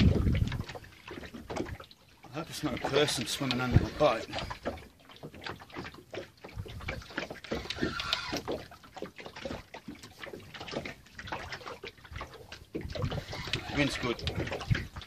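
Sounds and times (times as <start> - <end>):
water slapping against boat hull: 0.0 - 15.0.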